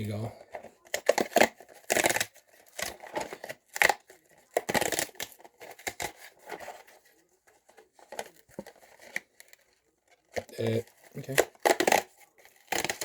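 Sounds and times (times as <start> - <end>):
packaging crackling and crinkling: 0.0 - 13.0.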